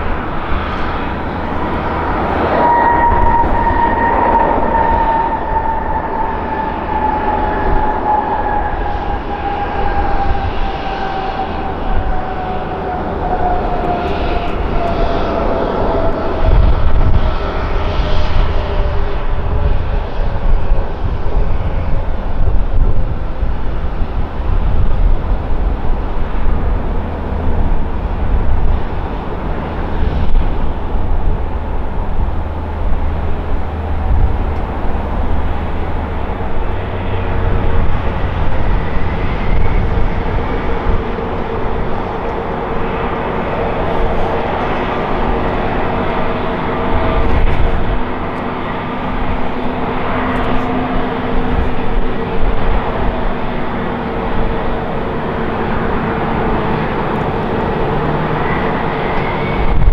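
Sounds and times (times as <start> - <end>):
jet engine whine: 0.0 - 59.9
jet engines rumbling: 0.0 - 59.9.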